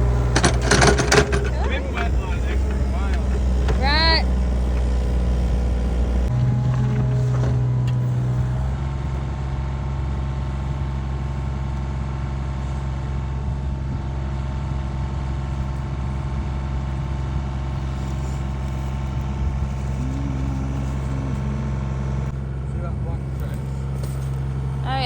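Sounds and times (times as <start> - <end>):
farm machinery engine running: 0.0 - 25.0.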